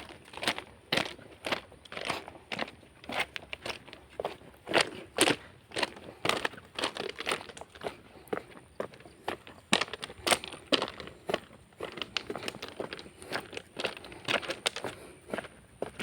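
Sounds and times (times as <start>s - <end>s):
footsteps crunching: 0.0s - 16.0s.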